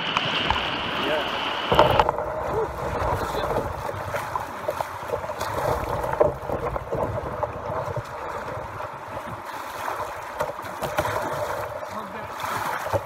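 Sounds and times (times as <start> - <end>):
paddle strokes splashing: 0.0 - 13.0
rushing water of rapids: 0.0 - 13.0.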